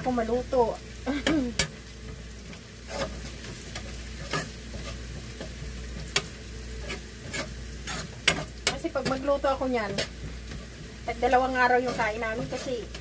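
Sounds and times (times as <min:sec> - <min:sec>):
food sizzling in a pan: 0:00.0 - 0:13.0
utensil scraping a pan: 0:01.6 - 0:13.0.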